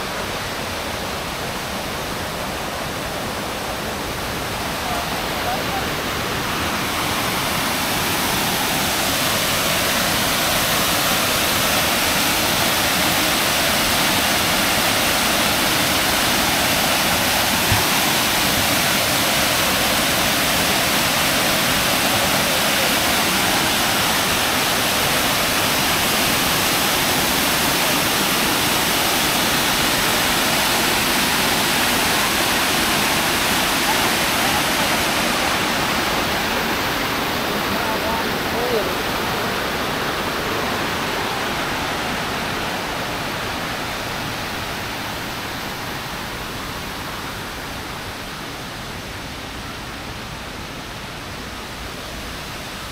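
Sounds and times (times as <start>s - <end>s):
waterfall rushing over rocks: 0.0s - 52.9s.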